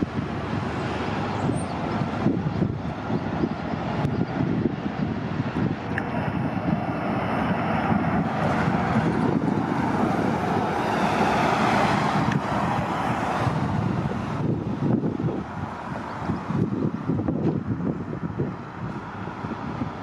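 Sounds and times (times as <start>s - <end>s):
bus engine running: 0.0s - 20.0s
traffic noise: 0.0s - 20.0s
wind on microphone: 0.0s - 20.0s.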